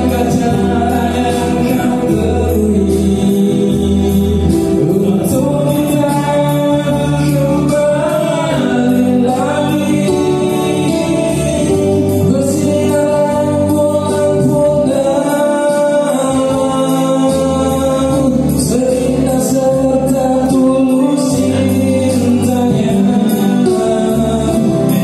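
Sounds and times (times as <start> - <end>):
electronic keyboard chords and bass: 0.0 - 25.0
men singing pop ballad in harmony: 0.0 - 25.0.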